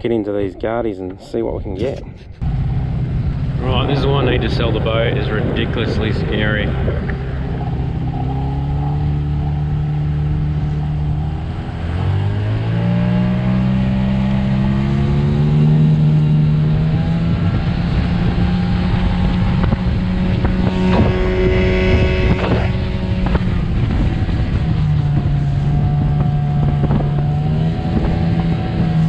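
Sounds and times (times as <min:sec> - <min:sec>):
outboard motor running: 0:02.4 - 0:29.0.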